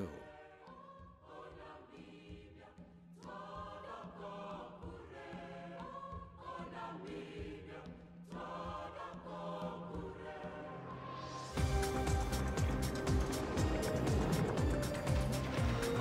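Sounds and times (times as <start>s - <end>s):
choir singing held chords: 0.0s - 16.0s.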